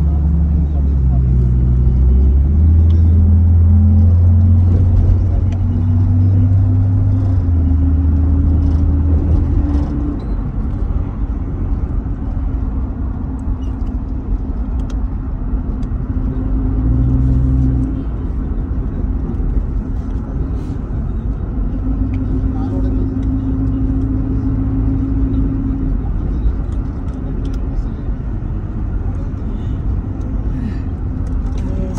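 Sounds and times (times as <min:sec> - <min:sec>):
van engine and road noise: 0:00.0 - 0:31.9.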